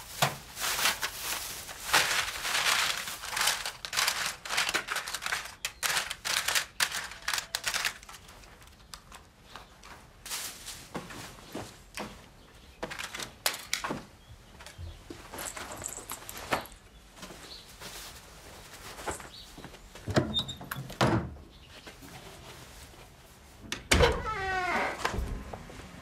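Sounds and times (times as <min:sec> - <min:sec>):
clothes and belongings rustling: 0:00.0 - 0:20.4, 0:21.6 - 0:23.7.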